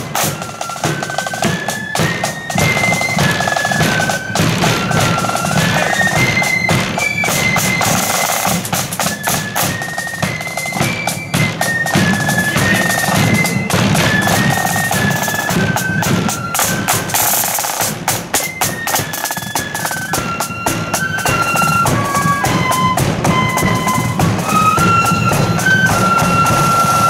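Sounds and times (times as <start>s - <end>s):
shrill flutes: 0.0s - 27.0s
snare drum rolls: 0.0s - 27.0s.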